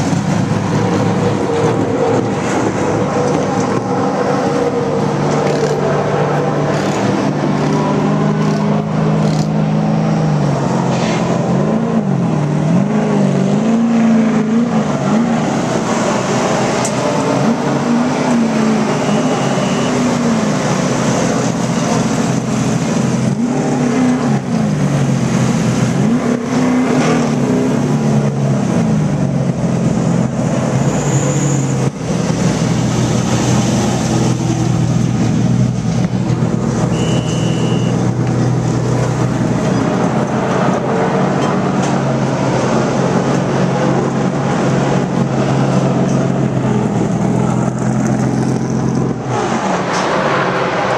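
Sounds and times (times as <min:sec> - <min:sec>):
race truck engines revving: 0:00.0 - 0:50.9.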